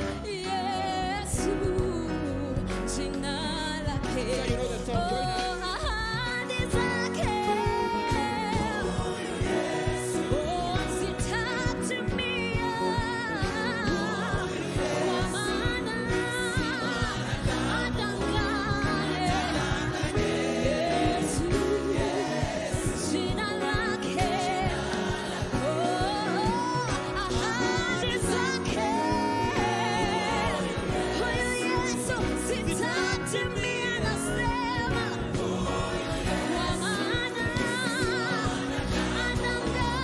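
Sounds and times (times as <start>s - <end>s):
gospel singers with band: 0.0s - 40.0s.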